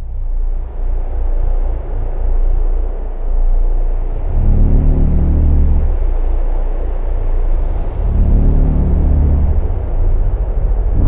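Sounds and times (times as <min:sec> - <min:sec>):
deep droning rumble: 0:00.0 - 0:11.0.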